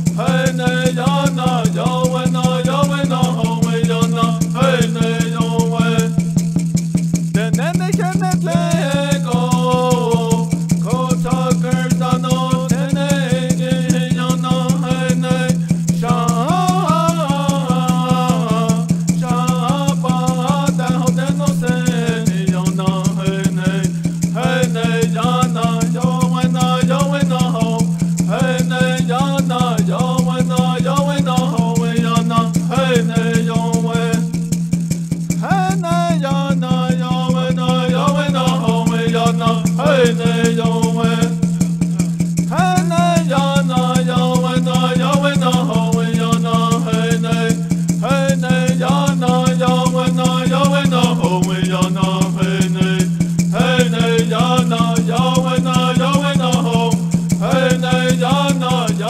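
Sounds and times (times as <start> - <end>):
gourd rattle shaking: 0.0 - 0.3, 3.1 - 59.0
men singing: 0.0 - 6.4, 7.4 - 34.6, 35.4 - 59.0
water drum beat: 0.0 - 59.0.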